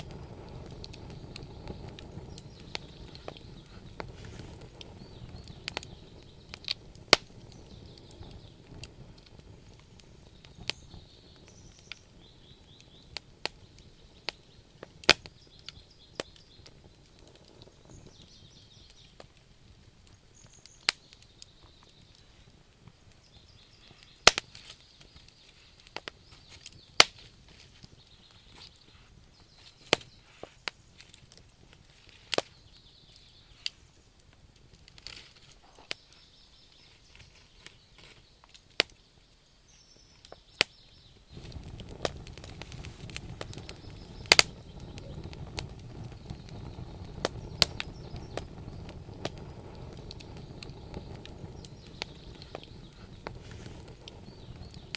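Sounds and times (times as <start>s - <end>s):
low rush of fire: 0.0s - 39.0s, 40.6s - 54.9s
burning logs popping: 0.0s - 54.9s
campfire crackling: 0.0s - 54.9s.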